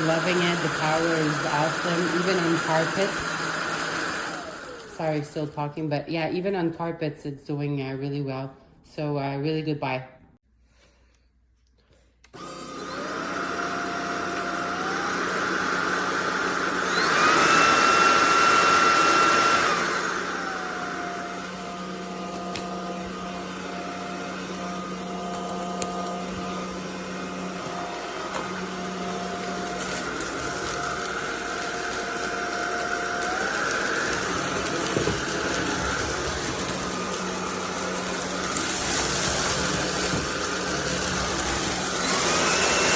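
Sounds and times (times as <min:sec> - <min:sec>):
stick vacuum motor whine: 0:00.0 - 0:05.8, 0:12.3 - 0:42.9.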